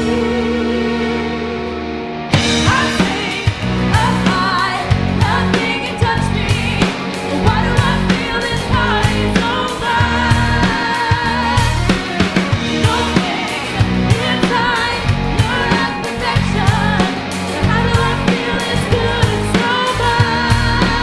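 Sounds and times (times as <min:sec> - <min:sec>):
drums: 0:00.0 - 0:21.0
rock band playing: 0:00.0 - 0:21.0
wavering electric guitar lead: 0:00.0 - 0:21.0
person singing: 0:02.6 - 0:21.0.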